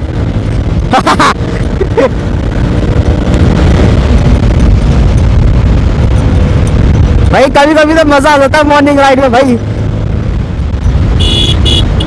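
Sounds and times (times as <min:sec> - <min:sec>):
motorcycle accelerating: 0:00.0 - 0:12.0
wind buffeting the microphone: 0:00.0 - 0:12.0.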